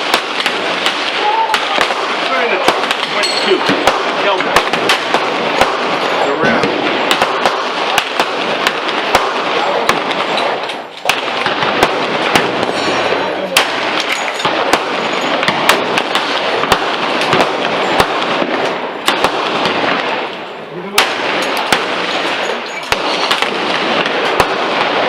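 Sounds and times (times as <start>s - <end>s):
gunshots: 0.0s - 25.0s.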